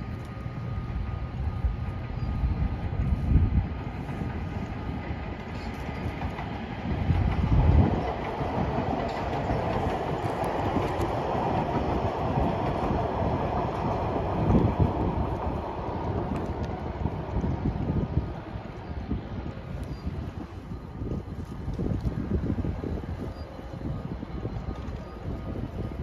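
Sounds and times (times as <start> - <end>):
metro train running on rails: 0.0 - 26.0
wind gusts on microphone: 0.0 - 26.0.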